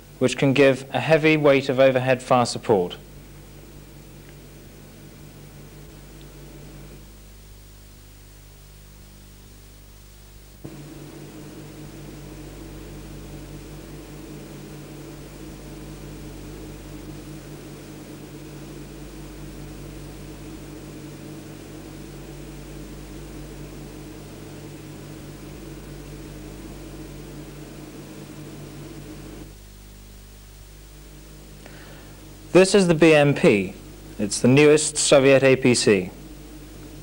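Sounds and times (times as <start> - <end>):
low drone with hiss: 0.0 - 37.0.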